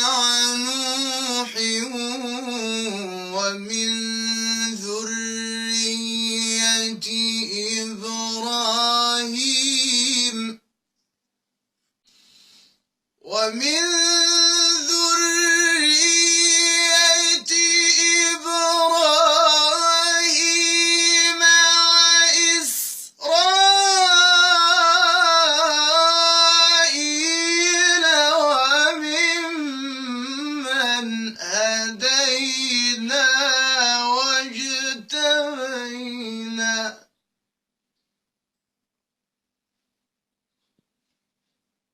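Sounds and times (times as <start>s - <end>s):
man reciting melodically: 0.0s - 10.7s, 13.2s - 37.2s.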